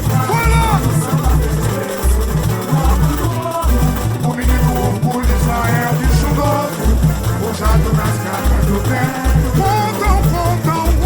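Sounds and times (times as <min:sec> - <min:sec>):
deep bass drum beats: 0:00.0 - 0:11.0
samba drum section: 0:00.0 - 0:11.0.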